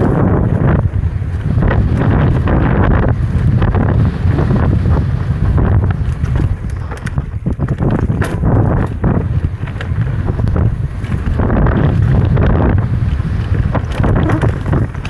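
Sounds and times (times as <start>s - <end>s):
bike knocking and rattling: 0.0s - 15.0s
wind buffeting microphone: 0.0s - 15.0s.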